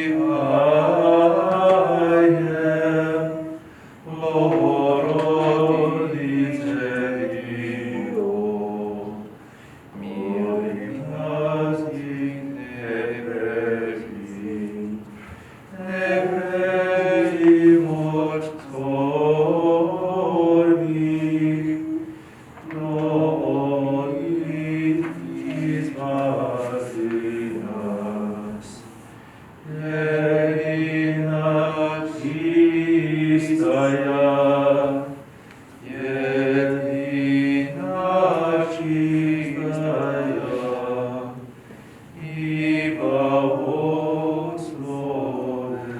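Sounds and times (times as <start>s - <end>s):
voices chanting a hymn: 0.0s - 45.9s.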